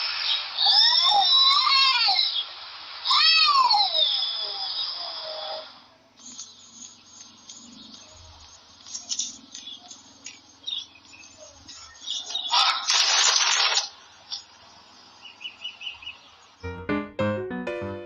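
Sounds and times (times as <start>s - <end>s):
small birds chirping: 0.0s - 12.9s, 14.0s - 16.6s.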